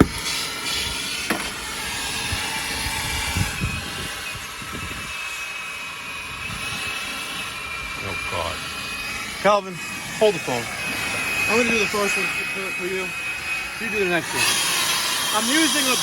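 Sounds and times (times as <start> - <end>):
soldering torch hissing: 0.0 - 16.0.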